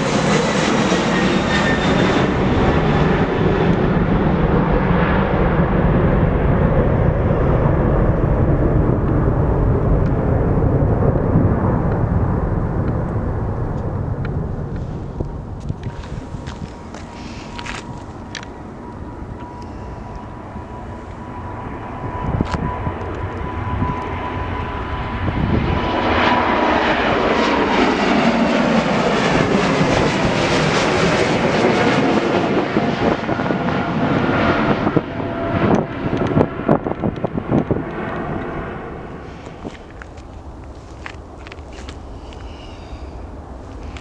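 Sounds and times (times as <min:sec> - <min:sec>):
jet airliner passing: 0:00.0 - 0:44.0.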